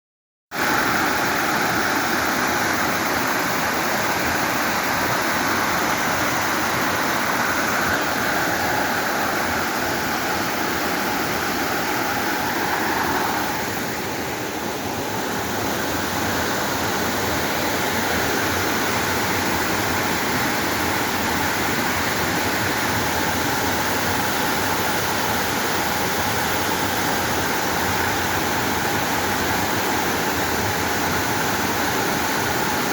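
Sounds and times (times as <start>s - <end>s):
waterfall rushing: 0.6s - 32.9s.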